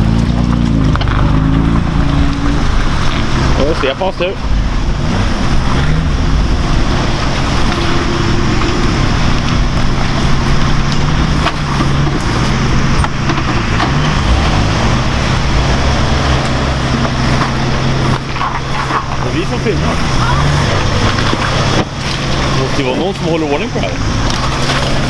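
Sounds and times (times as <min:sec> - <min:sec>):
off-road vehicle engine revving: 0:00.0 - 0:25.0
steady dense noise: 0:00.0 - 0:25.0.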